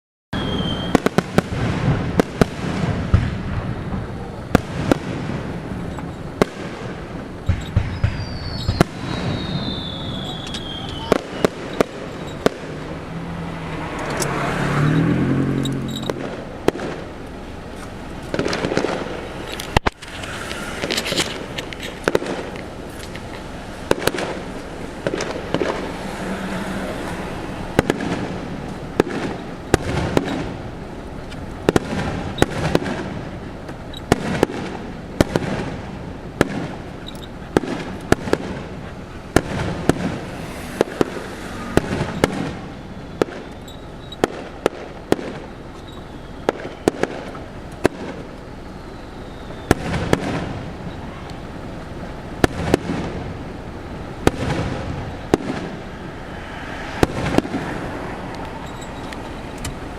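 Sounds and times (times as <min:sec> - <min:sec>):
fireworks shells bursting with bangs: 0:00.4 - 0:56.2, 0:56.9 - 0:59.9
fireworks crackle and rumble: 0:00.4 - 0:59.9.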